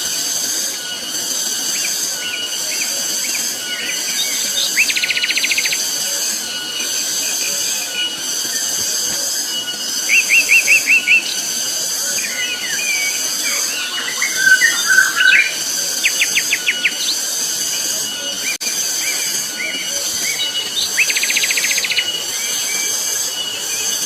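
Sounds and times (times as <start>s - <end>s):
birds calling: 0.0s - 24.0s
cicadas droning: 0.0s - 24.0s.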